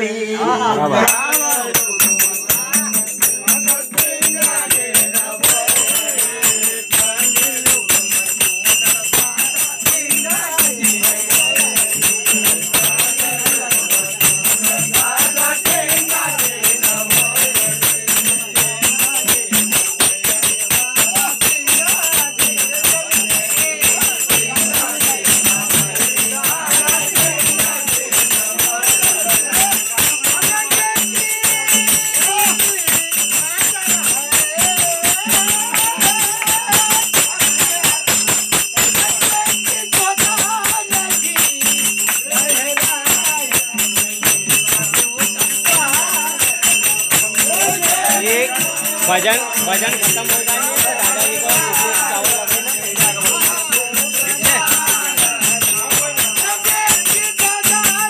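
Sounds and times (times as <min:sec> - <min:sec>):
jingling metal percussion: 0:01.0 - 0:58.0
hand drum fast beat: 0:01.1 - 0:58.0.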